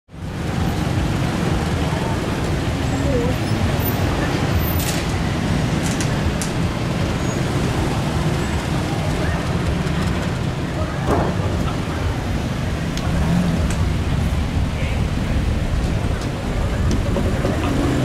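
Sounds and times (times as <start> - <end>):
traffic rumble: 0.1 - 18.0.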